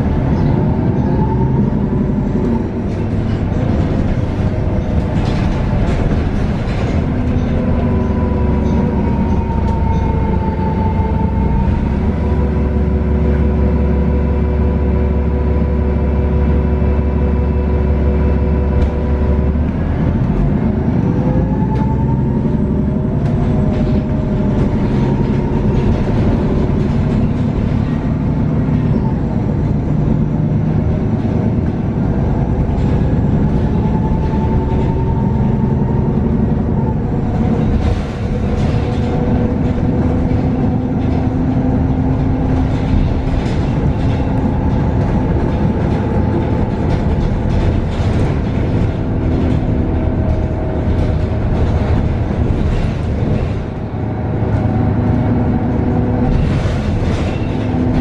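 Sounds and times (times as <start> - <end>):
bus engine running: 0.0 - 58.0
rattles and knocks of bus body: 0.0 - 58.0.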